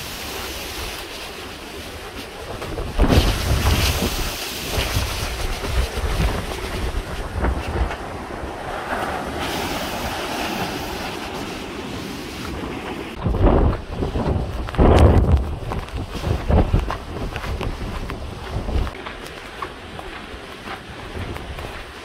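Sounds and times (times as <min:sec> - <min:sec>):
surf breaking on beach: 0:00.0 - 0:22.0
wind gusting over microphone: 0:00.0 - 0:22.0.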